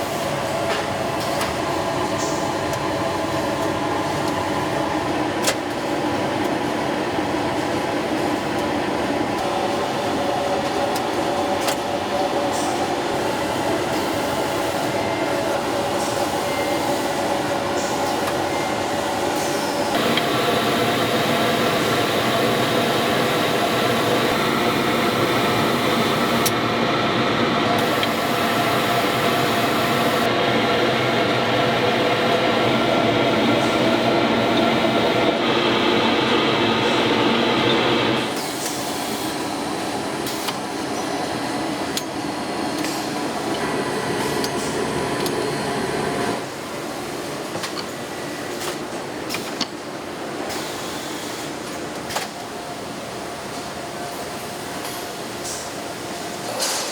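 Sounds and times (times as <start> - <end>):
factory machinery hum and whir: 0.0 - 56.9.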